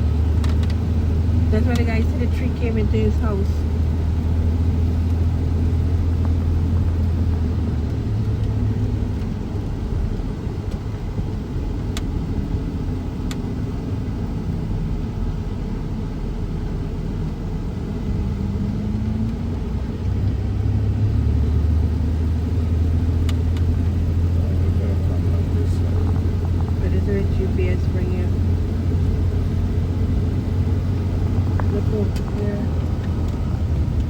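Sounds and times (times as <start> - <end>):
car road and engine rumble: 0.0 - 34.0.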